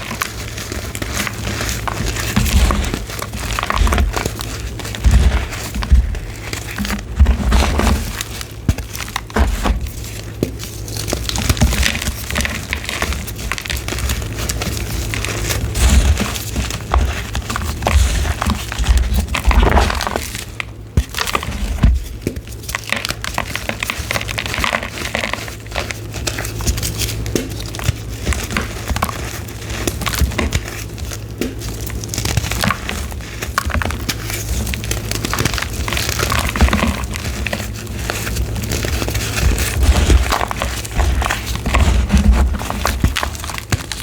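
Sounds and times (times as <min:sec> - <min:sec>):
chalk being crushed: 0:00.0 - 0:44.0.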